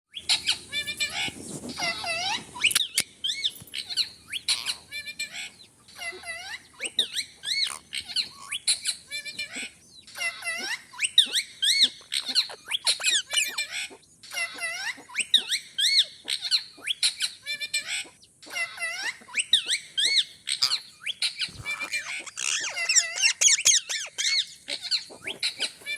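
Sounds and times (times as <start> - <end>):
parrot chirps and squawks: 0.1 - 25.9.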